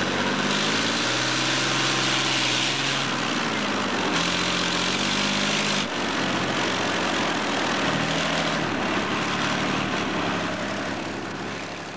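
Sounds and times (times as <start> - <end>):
heavy vehicle engine running: 0.0 - 11.9.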